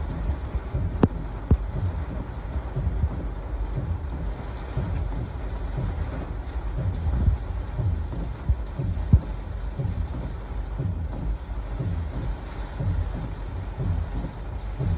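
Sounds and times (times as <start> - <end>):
heavy rain hissing: 0.0 - 14.9
wind buffeting microphone: 0.0 - 14.9.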